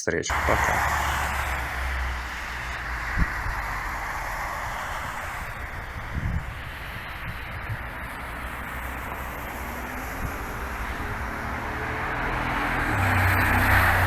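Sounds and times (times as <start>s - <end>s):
outdoor rushing noise: 0.3s - 14.0s
passing vehicle rumble: 0.3s - 14.0s.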